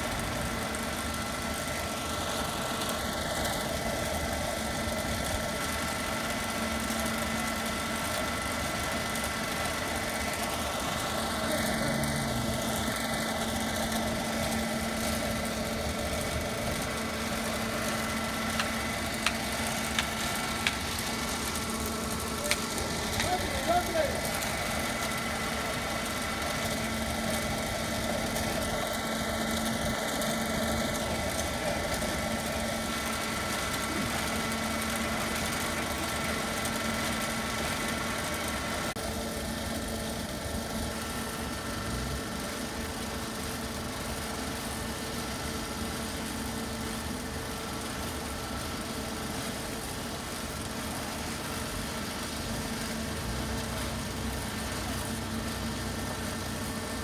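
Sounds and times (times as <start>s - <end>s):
stone saw machine running: 0.0s - 57.0s.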